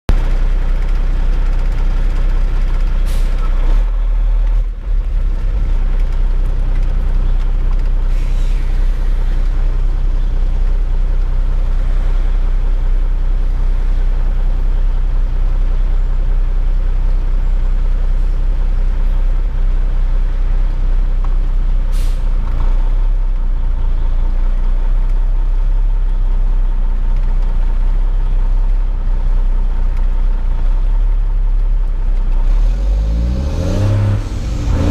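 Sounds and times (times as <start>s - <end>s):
truck diesel engine running: 0.1s - 34.9s.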